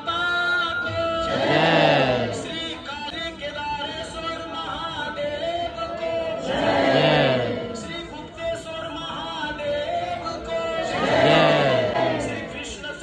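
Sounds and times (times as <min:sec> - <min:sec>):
group chanting a devotional hymn: 0:00.9 - 0:13.0.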